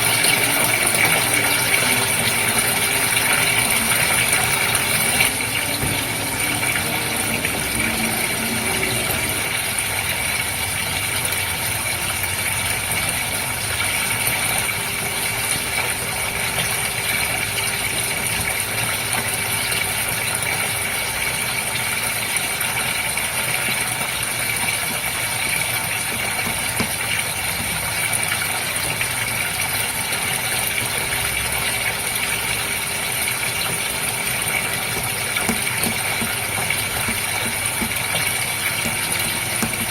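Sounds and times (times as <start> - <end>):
pump hum: 0.0 - 39.9
running water: 0.0 - 39.9.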